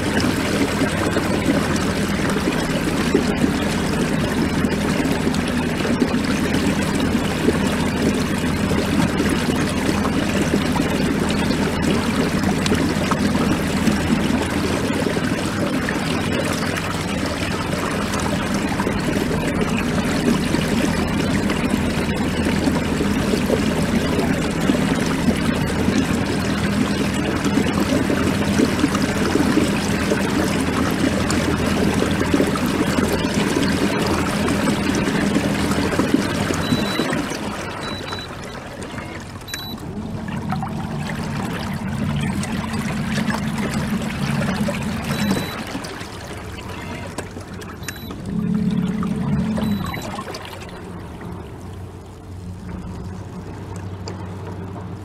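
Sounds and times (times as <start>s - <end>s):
motor humming: 0.0s - 55.0s
water rushing along hull: 0.0s - 55.0s.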